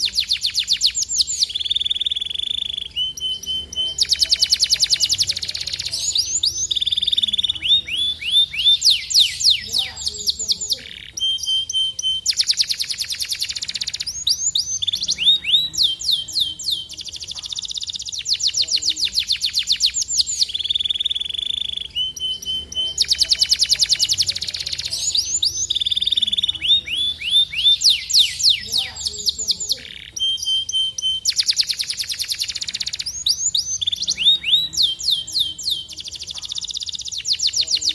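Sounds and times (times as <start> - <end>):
canary singing: 0.0 - 37.9.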